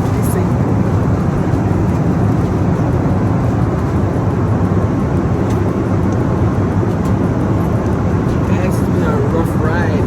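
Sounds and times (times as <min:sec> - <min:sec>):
jet airliner rumble: 0:00.0 - 0:10.0.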